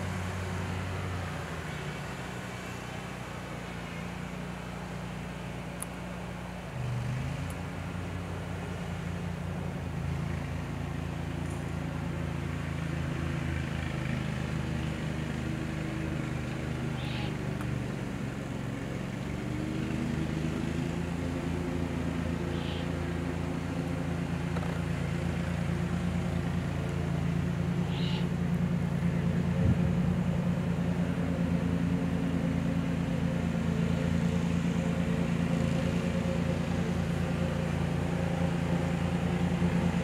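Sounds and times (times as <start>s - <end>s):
vehicle engine humming: 0.0s - 40.0s.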